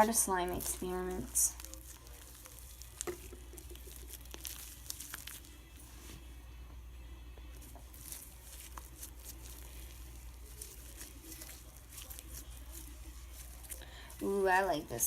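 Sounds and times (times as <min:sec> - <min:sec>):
slime crackling and squishing: 0:00.0 - 0:06.2, 0:07.5 - 0:15.0
low background hum: 0:00.0 - 0:15.0.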